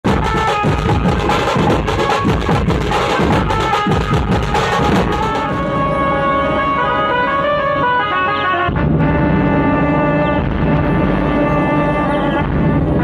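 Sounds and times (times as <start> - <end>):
large drums beating: 0.0 - 7.6, 8.6 - 13.0.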